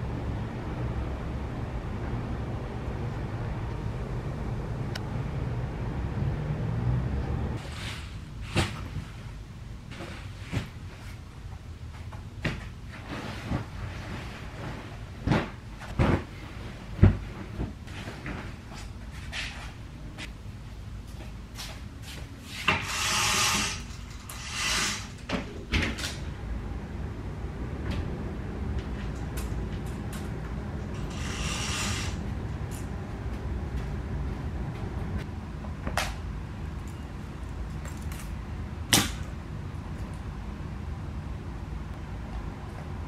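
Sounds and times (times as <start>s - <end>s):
low steady rumble: 0.0s - 22.0s, 25.5s - 43.0s.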